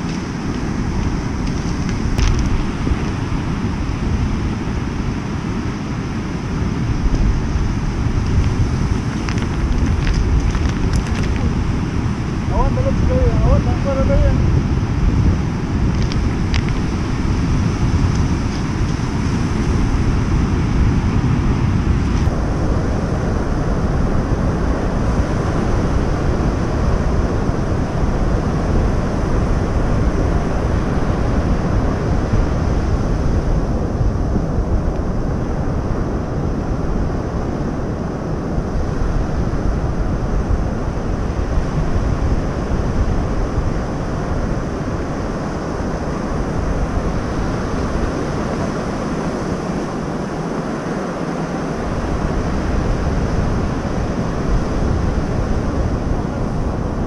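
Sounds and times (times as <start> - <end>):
surf breaking on stony beach: 0.0 - 57.0
wind buffeting microphone: 0.0 - 57.0.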